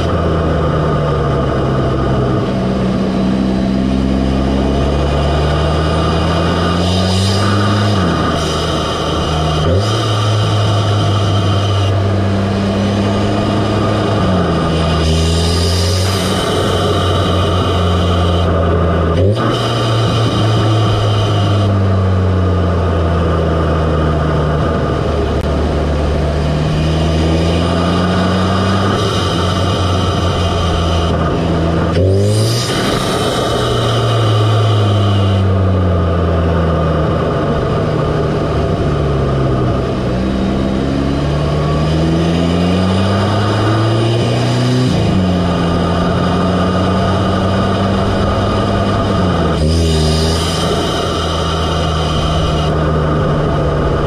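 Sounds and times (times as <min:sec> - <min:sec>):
car engine and intake: 0:00.0 - 0:54.0.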